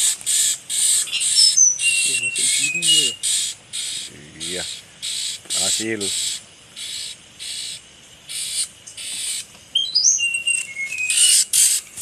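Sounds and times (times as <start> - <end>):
bird whistling: 0.0 - 11.8
short raspy chirps: 0.0 - 12.0.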